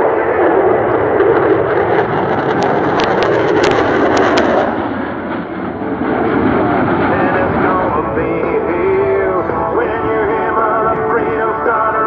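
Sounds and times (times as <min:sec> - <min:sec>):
jet fighter engine rush: 0:00.0 - 0:12.0.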